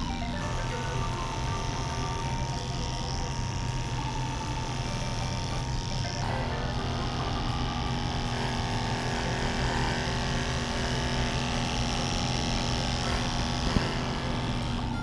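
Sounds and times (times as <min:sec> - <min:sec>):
electric clipper buzzing: 0:00.0 - 0:15.0.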